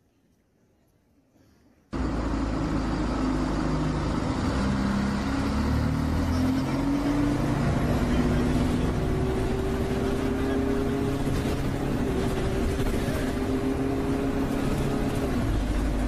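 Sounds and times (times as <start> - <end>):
street rumble and hiss: 1.9 - 16.0.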